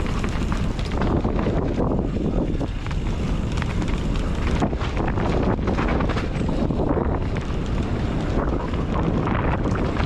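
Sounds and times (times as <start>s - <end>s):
bike knocks and rattles: 0.0s - 10.0s
steady low rumble: 0.0s - 10.0s
wind buffeting microphone: 0.0s - 10.0s.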